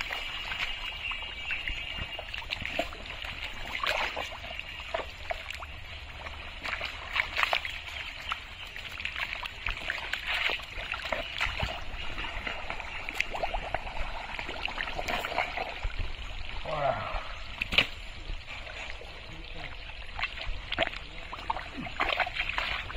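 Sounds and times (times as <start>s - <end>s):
mud squelching and splashing: 0.0s - 22.9s.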